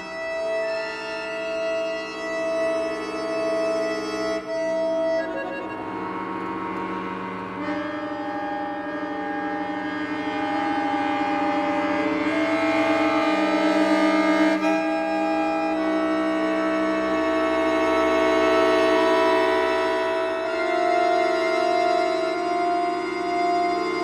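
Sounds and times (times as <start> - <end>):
accordion playing sustained chords: 0.0 - 24.0.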